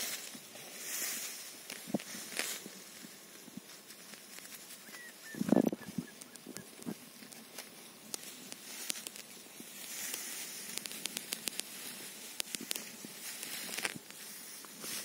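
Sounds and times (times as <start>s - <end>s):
dry straw rustling and crackling: 0.0s - 15.0s.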